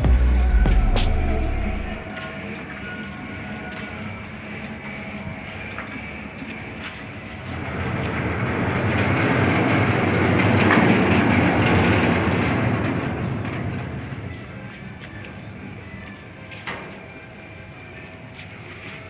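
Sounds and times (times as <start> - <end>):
machinery rumbling: 0.0 - 19.0.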